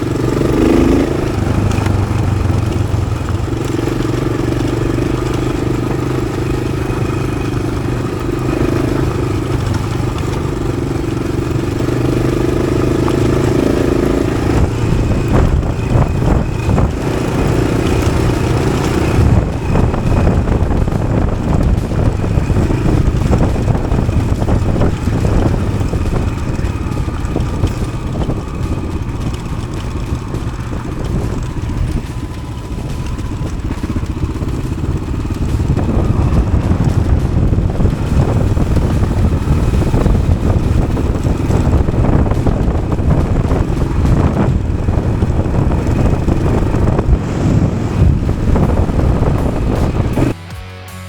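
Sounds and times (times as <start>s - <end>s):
motorcycle engine running: 0.0s - 50.4s.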